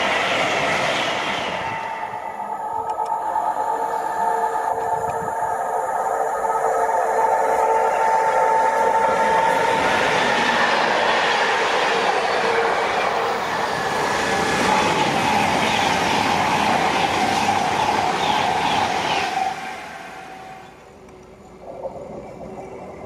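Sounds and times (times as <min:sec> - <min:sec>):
diesel locomotive tones: 0:00.0 - 0:23.0
express train passing at speed: 0:00.0 - 0:23.0.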